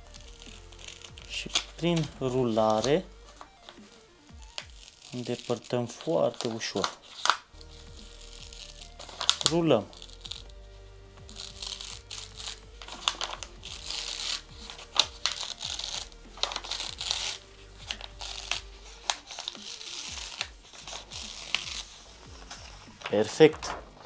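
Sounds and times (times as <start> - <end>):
background music: 0.0 - 24.0
foil crinkling and crackling: 0.0 - 24.0.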